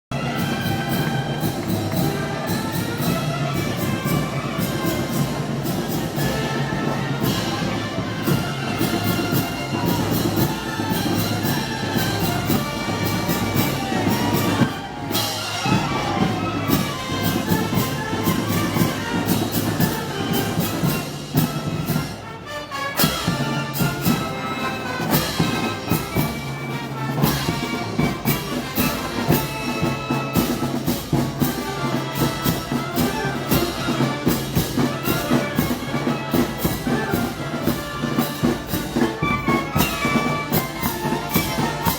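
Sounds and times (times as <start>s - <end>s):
brass band with drums: 0.1s - 41.9s.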